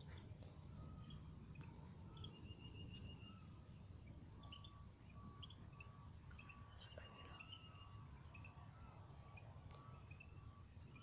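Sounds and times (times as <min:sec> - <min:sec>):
low steady rumble: 0:00.0 - 0:11.0
faint bird calls: 0:00.8 - 0:11.0.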